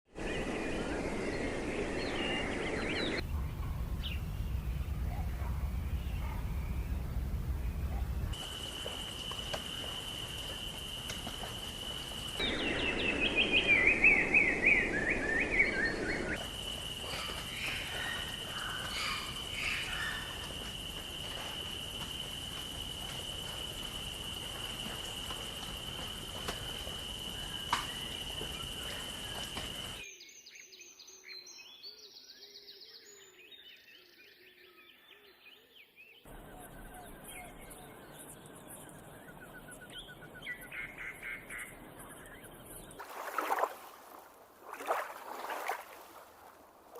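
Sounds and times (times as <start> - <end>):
wild birds calling: 0.2 - 30.0, 36.3 - 46.2.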